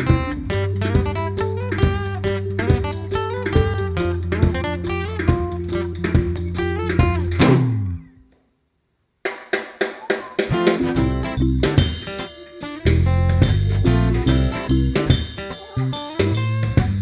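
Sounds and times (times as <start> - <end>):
guitar and bass backing music: 0.0 - 8.2, 10.5 - 17.0
sharp plucked guitar notes: 0.0 - 8.2, 10.5 - 17.0.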